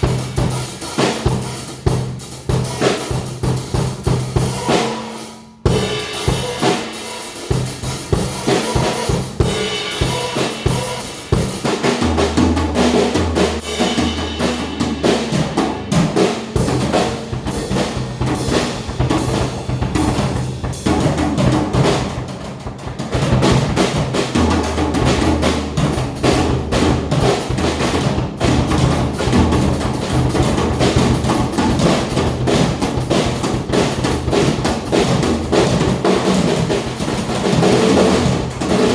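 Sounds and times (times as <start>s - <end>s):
drum kit groove: 0.0s - 38.9s.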